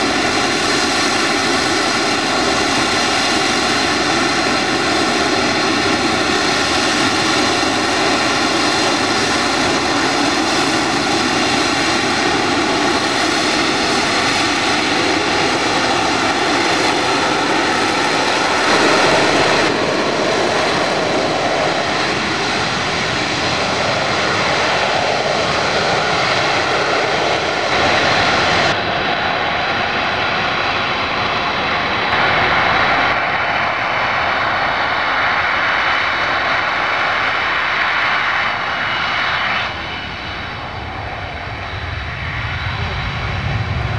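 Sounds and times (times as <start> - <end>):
aircraft engine whine: 0.0 - 43.9
rushing noise: 0.0 - 43.9.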